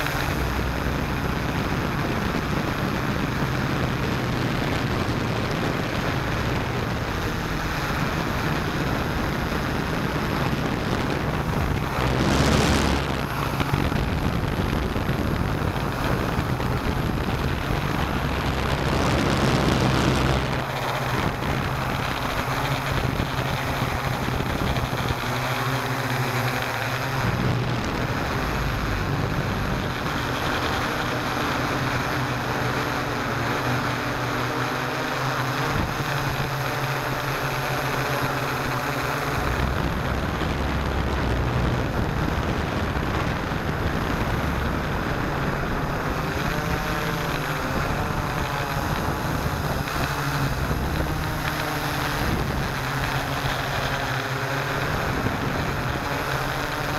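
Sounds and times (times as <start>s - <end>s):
drone motors and propellers humming: 0.0s - 56.9s
wind on microphone: 0.0s - 56.9s.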